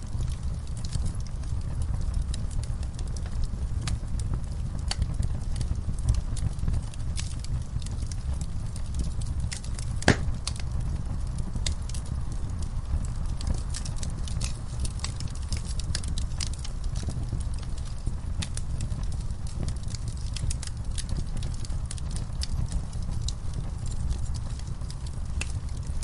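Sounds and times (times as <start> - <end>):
flames rumbling: 0.0 - 26.0
wood fire crackling: 0.0 - 26.0.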